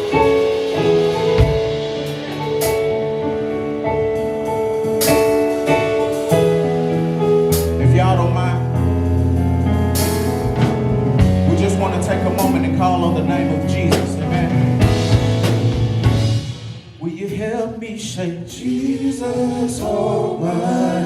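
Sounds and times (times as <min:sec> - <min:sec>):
keyboard chords: 0:00.0 - 0:17.0
bass line: 0:00.0 - 0:17.7.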